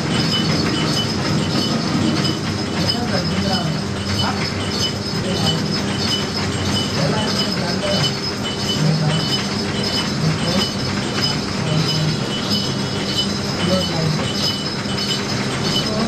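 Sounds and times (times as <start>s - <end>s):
bell tinkling rhythmically: 0.0s - 16.0s.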